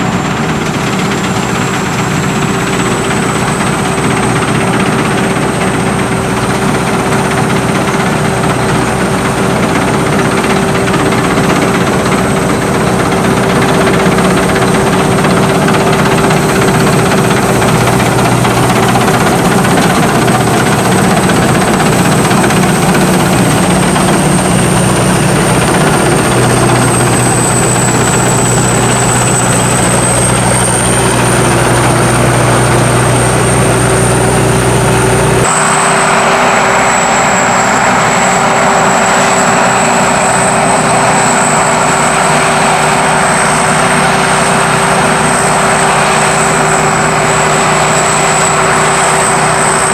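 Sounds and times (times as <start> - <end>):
combine harvester running: 0.0 - 49.9
constant high whine: 0.0 - 49.9.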